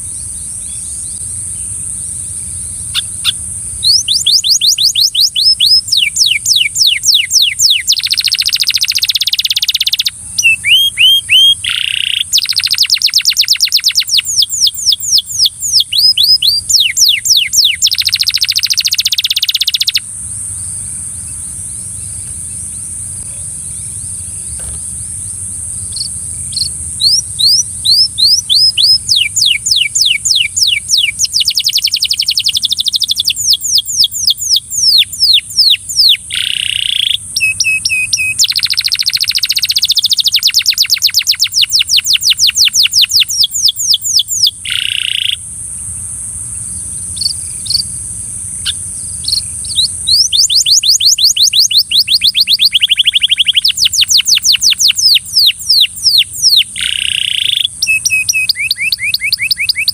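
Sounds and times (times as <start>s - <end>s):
canary singing trills: 0.0s - 45.5s, 46.5s - 59.9s
steady high hiss: 0.0s - 59.9s.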